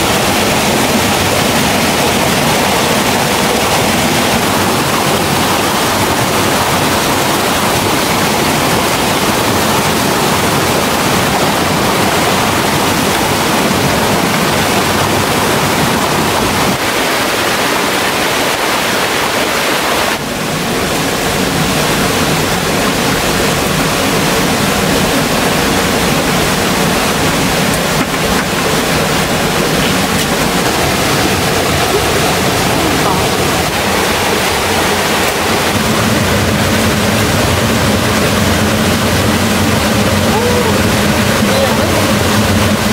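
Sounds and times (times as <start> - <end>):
waterfall roar: 0.0 - 42.9.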